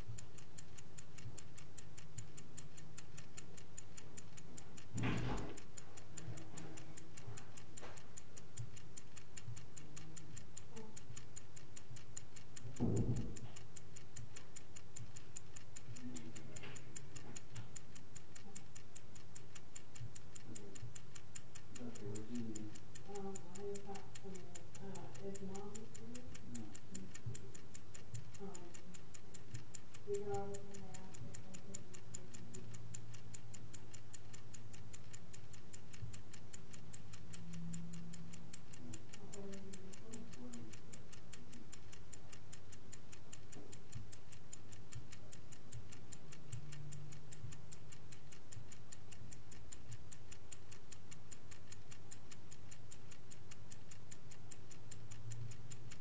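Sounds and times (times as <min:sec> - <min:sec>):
clock ticking: 0:00.0 - 0:56.0
faint low hum: 0:00.0 - 0:56.0.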